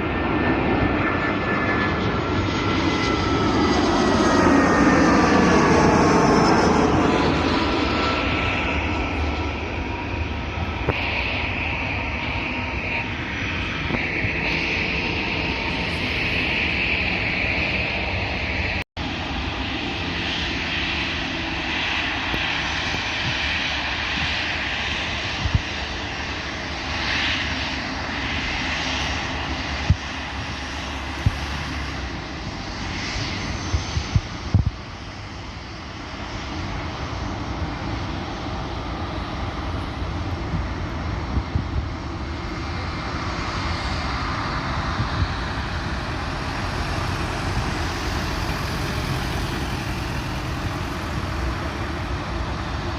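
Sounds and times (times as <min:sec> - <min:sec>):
airliner engines rushing: 0:00.0 - 0:52.9.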